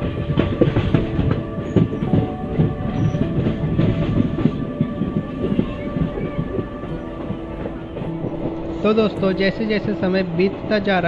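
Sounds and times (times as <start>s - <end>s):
train rumble and rattle: 0.0s - 11.0s
wheels clacking over rail joints: 0.0s - 11.0s.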